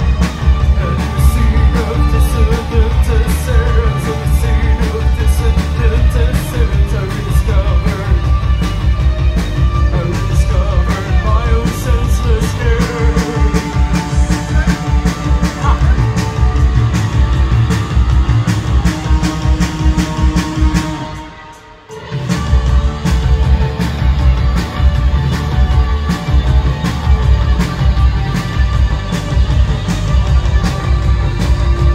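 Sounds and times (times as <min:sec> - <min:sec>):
live rock band playing: 0:00.0 - 0:31.9.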